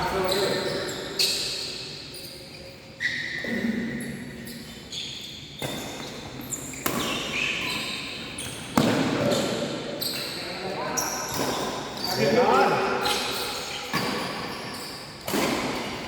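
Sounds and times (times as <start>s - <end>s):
court shoes squeaking: 0.0s - 16.0s.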